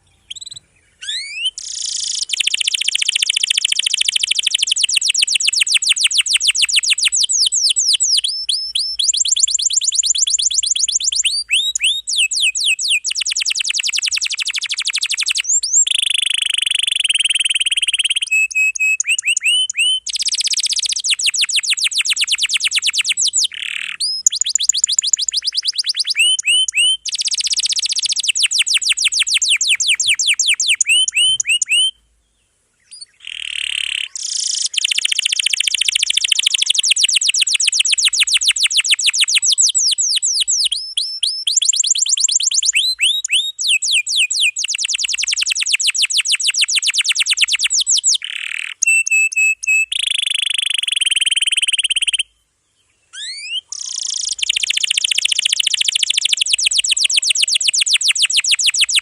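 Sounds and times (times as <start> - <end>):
canary singing trills: 0.0 - 32.1, 32.8 - 59.0.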